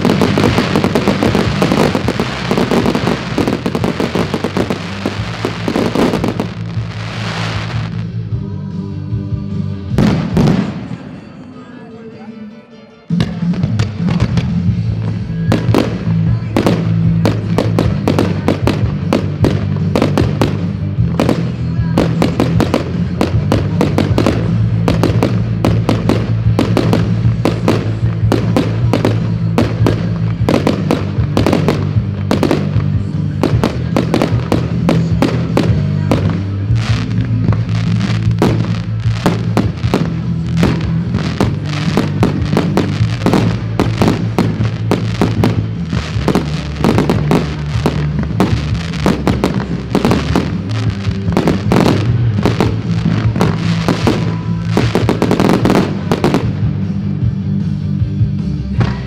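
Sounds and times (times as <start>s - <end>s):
fireworks bangs: 0.0s - 8.1s, 9.9s - 11.5s, 13.2s - 57.3s
music playing: 0.0s - 59.0s.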